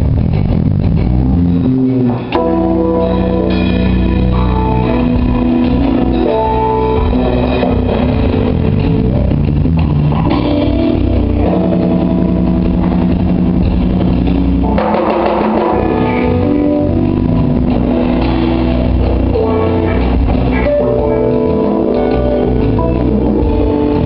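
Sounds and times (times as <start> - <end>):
drums: 0.0 - 24.0
electric guitar sustained notes: 0.0 - 24.0.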